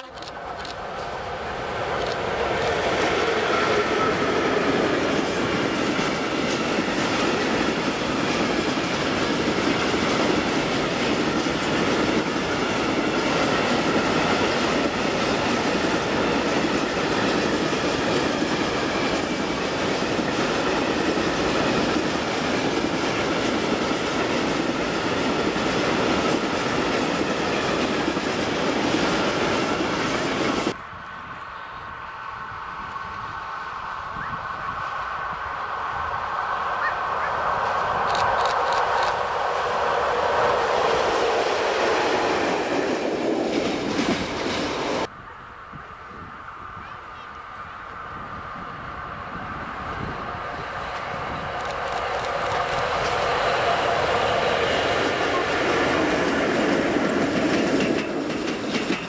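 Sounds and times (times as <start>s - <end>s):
freight train wheels clattering: 0.0s - 30.8s, 36.9s - 45.1s, 50.0s - 59.0s.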